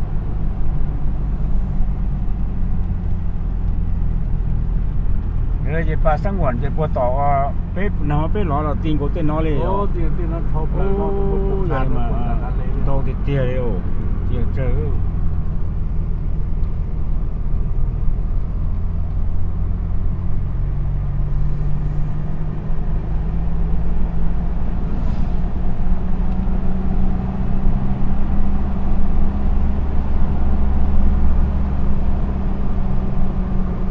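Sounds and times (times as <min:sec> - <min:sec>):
road noise: 0:00.0 - 0:33.9
vehicle engine hum: 0:00.0 - 0:33.9.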